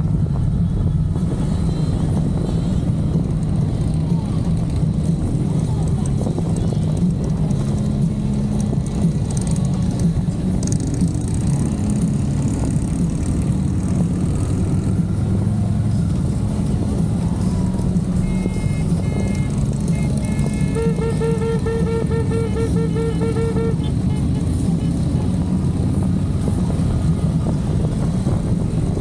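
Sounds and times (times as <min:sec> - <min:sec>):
motorcycle engines rumbling: 0:00.0 - 0:29.0.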